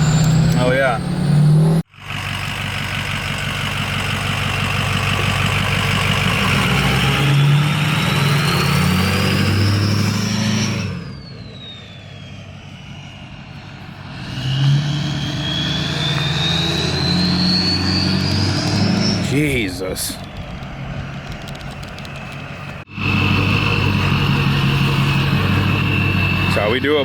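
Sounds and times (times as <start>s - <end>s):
turbo whistling: 0.0s - 1.8s, 3.9s - 27.0s
diesel engine pulling hard: 0.0s - 27.0s.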